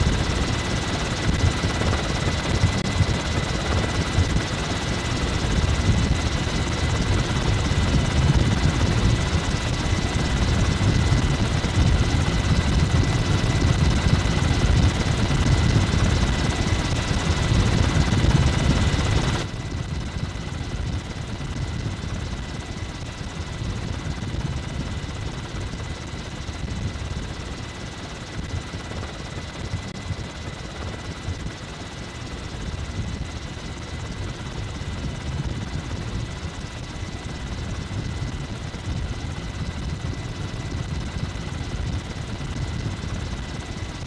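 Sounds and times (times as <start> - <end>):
helicopter rotor and engine: 0.0 - 44.0.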